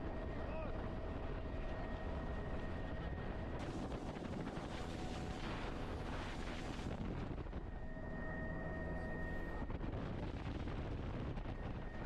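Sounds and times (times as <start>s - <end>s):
helicopter rotor and engine rumble: 0.0s - 12.0s.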